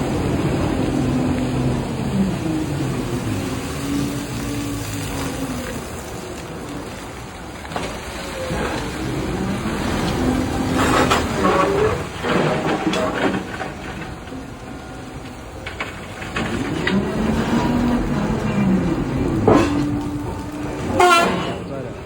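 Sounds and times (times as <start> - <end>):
excavator mechanical rumble: 0.0 - 22.0
heavy rumbling bursts: 0.0 - 22.0.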